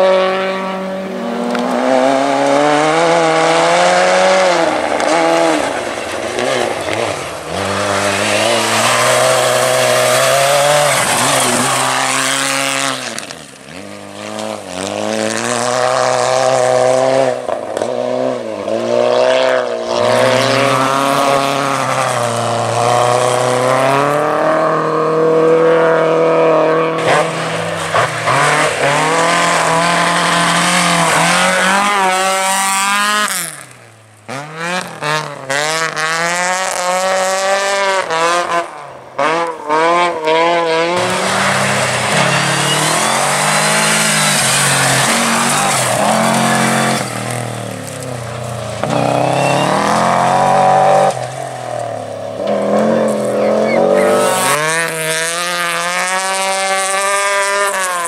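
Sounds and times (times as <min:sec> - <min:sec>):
rally car engine revving hard: 0:00.0 - 0:58.0.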